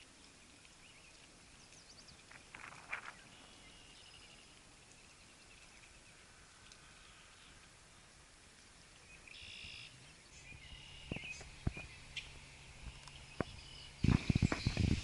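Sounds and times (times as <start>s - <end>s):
birds chirping: 0.0s - 8.1s, 9.0s - 15.0s.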